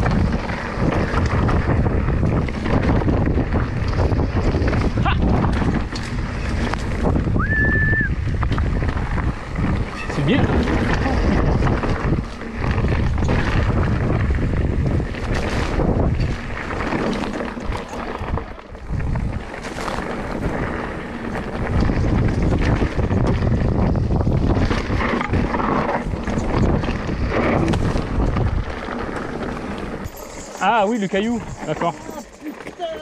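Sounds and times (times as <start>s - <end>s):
bike knocks and rattles: 0.0s - 7.4s, 8.2s - 33.0s
bike tyres rumbling on gravel: 0.0s - 33.0s
wind buffeting microphone: 0.0s - 33.0s.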